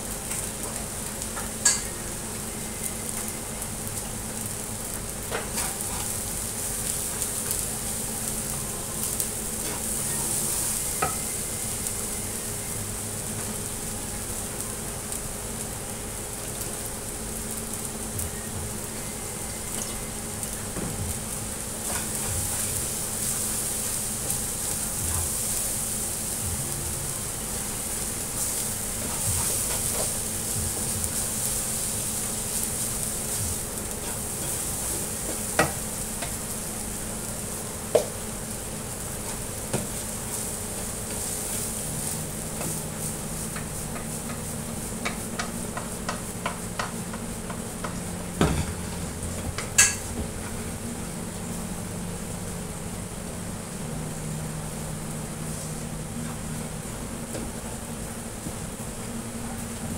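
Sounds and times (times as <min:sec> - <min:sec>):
rice sizzling in a hot pan: 0:00.0 - 0:59.9.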